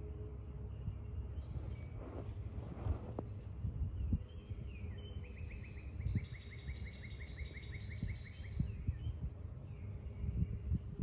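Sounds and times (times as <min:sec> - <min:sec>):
low background rumble: 0:00.0 - 0:11.0
songbird singing repeated notes: 0:00.0 - 0:11.0.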